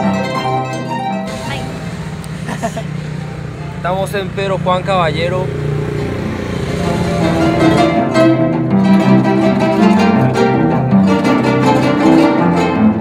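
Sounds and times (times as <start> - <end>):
harp music: 0.0 - 13.0.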